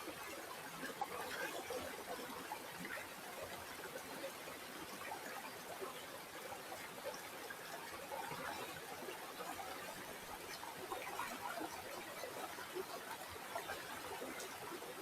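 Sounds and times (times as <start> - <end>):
stream water flowing: 0.0 - 15.0.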